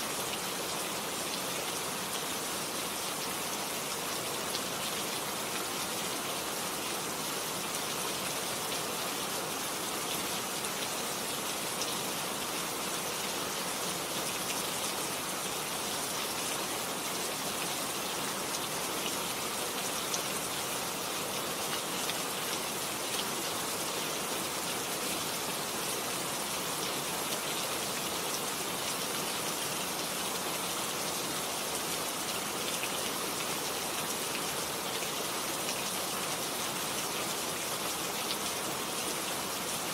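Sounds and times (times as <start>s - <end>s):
rain falling on plants: 0.0s - 39.9s.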